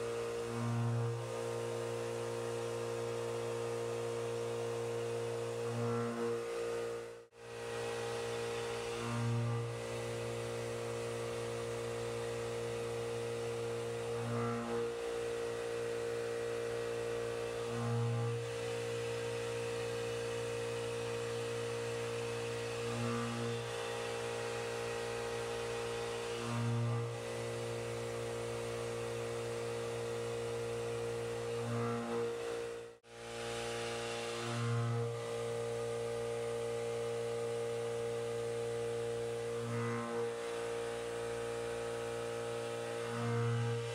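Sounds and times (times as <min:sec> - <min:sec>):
milling machine spindle humming: 0:00.0 - 0:43.9.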